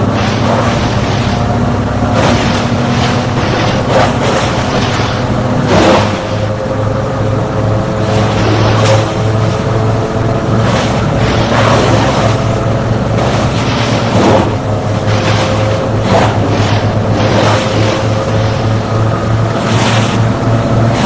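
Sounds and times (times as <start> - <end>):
wood chipper crunching: 0.0 - 21.0
wood chipper engine hum: 0.0 - 21.0.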